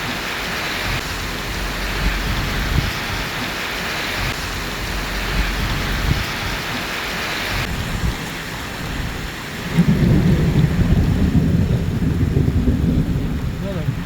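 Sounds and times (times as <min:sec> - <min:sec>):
rain falling: 0:00.0 - 0:14.0
thunder rumble: 0:00.0 - 0:14.0.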